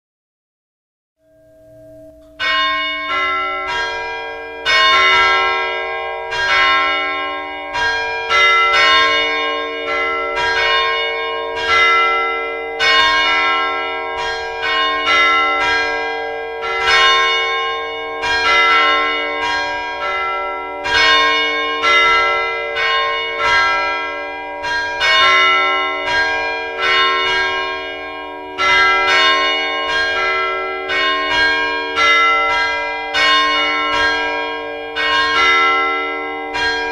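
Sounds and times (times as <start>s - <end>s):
large church bells ringing: 1.2s - 36.9s.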